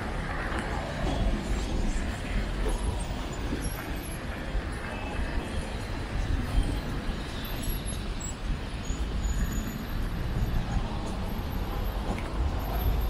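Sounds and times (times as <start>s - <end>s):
passing vehicles rumble: 0.0s - 13.0s.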